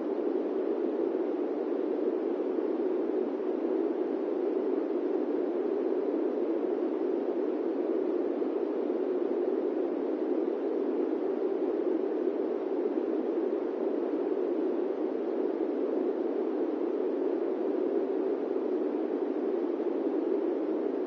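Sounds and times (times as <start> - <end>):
airplane cabin white noise: 0.0 - 21.0.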